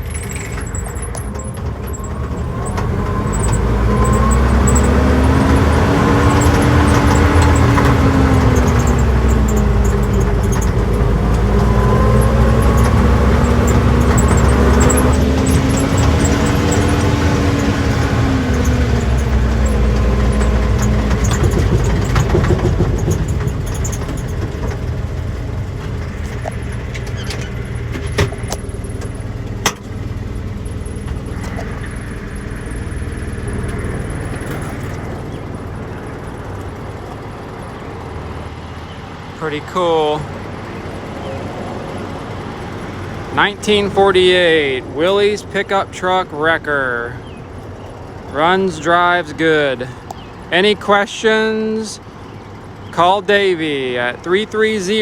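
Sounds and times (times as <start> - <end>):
pickup truck engine running: 0.0 - 55.0.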